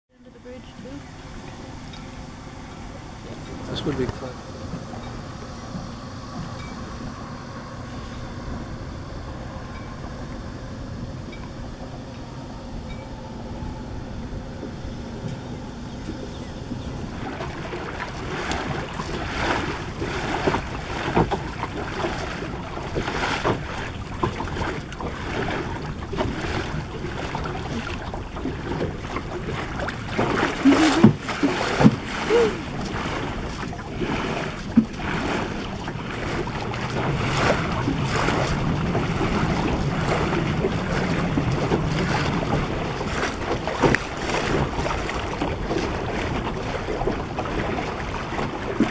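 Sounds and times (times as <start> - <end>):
water slapping against a hull: 0.2 - 13.8, 14.4 - 48.9
wind buffeting the microphone: 0.4 - 48.9.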